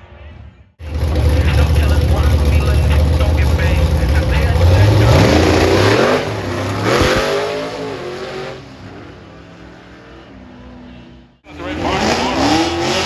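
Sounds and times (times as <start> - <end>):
drag racing car accelerating: 0.8 - 13.0.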